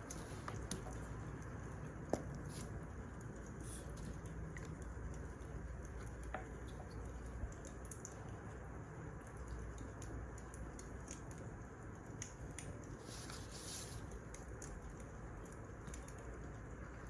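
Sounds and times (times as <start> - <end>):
fire popping and snapping: 0.0 - 17.0
low rumble of fire: 0.0 - 17.0.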